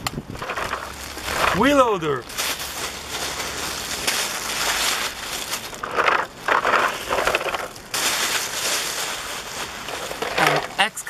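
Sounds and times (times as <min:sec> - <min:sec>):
small stones crunching and rattling: 0:00.0 - 0:10.8.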